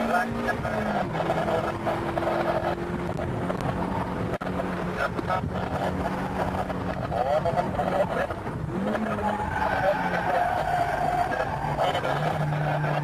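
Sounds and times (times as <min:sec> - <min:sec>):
car engine from inside cabin: 0:00.0 - 0:13.0
wind and road noise: 0:00.0 - 0:13.0.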